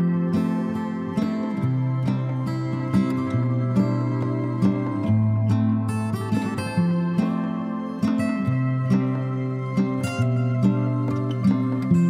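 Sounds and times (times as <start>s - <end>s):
gentle plucked string music: 0.0s - 12.0s.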